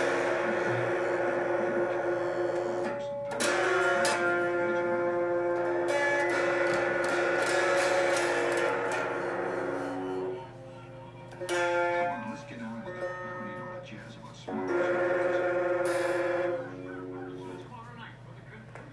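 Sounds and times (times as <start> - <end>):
electric guitar chords strummed: 0.0 - 17.7.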